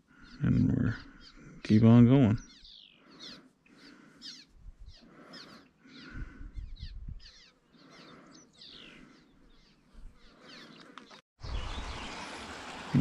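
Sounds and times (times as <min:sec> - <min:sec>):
birds calling: 0:00.0 - 0:12.3.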